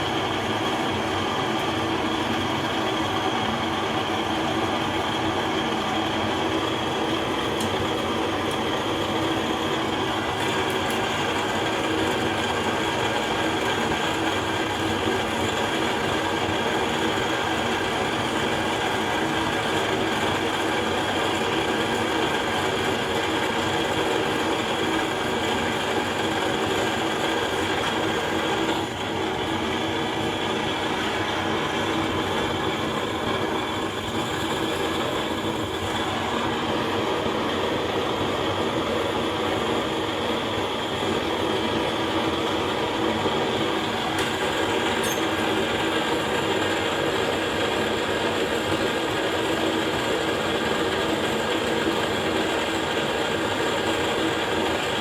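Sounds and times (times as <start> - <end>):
gas torch burner roaring: 0.0 - 55.0.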